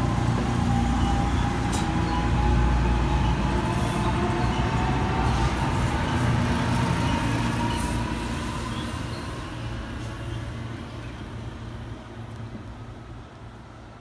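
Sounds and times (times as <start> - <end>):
electric train rumble and whine: 0.0 - 14.0.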